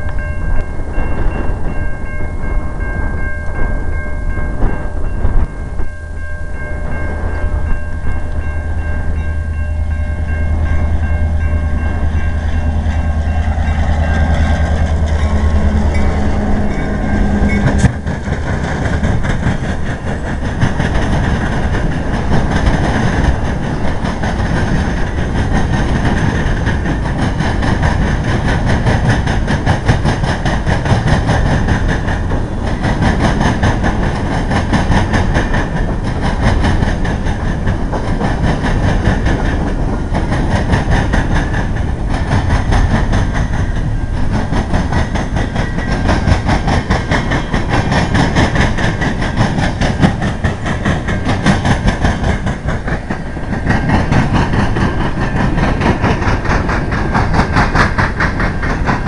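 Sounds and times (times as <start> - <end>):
freight cars rattling over rail joints: 0.0 - 59.0
low locomotive rumble: 0.0 - 59.0.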